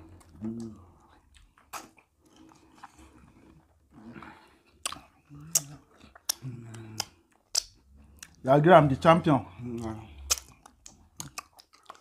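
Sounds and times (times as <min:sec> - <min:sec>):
wet chewing: 0:00.0 - 0:08.4, 0:09.6 - 0:12.0
lip smacks: 0:00.1 - 0:08.4, 0:09.7 - 0:12.0.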